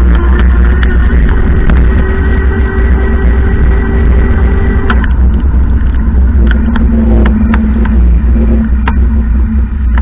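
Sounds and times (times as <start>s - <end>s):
low engine hum: 0.0s - 10.0s
wind and road noise: 0.0s - 10.0s.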